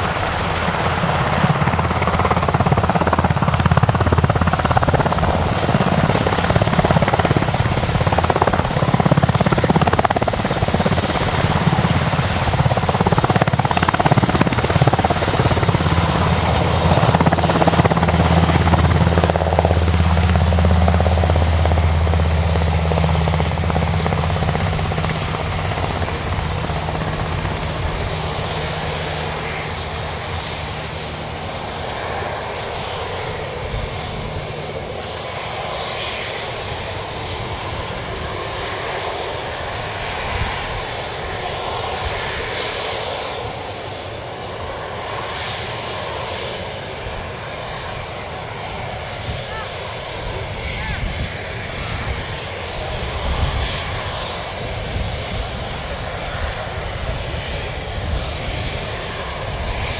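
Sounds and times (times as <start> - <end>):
helicopter taking off: 0.0 - 59.9.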